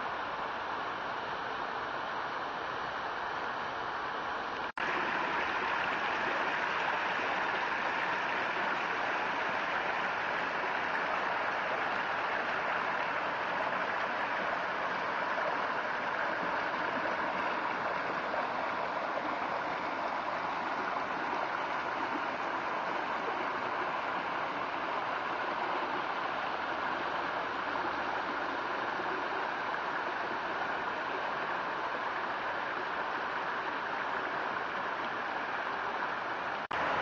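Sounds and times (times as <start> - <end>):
stream rushing over boulders: 0.0 - 37.0.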